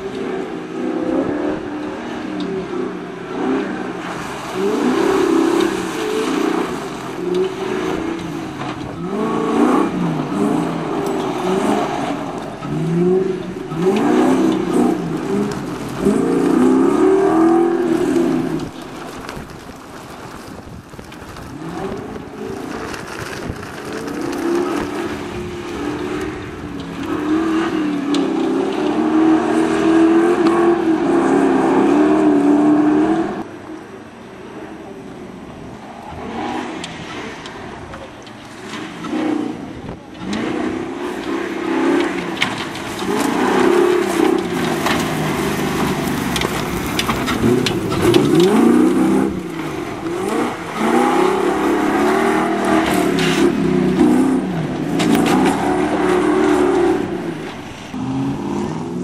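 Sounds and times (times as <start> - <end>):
off-road vehicle engine revving: 0.0 - 19.4, 21.4 - 33.5, 36.1 - 59.0.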